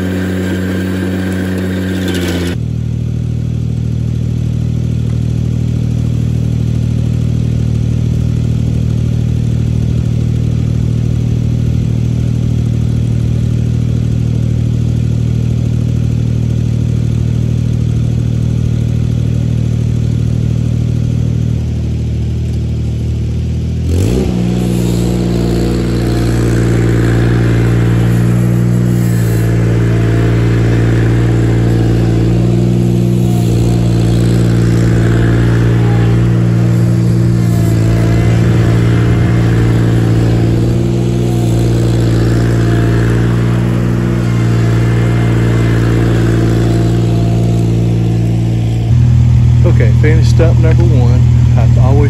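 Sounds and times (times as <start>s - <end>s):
tractor engine running steadily: 0.0s - 52.0s.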